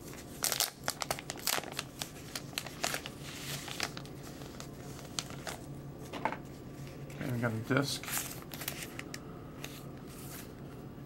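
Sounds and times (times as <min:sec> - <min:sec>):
paper envelope crinkling: 0:00.0 - 0:10.8.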